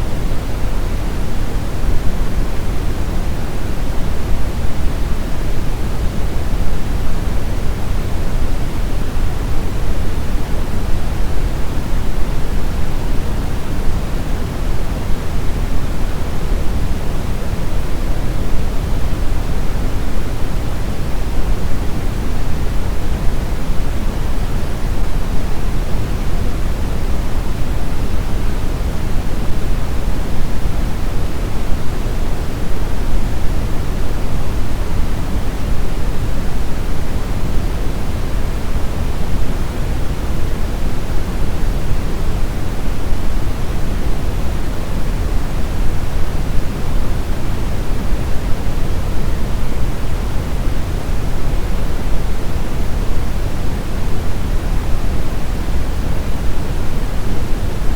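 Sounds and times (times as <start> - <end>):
brown noise: 0.0 - 57.9.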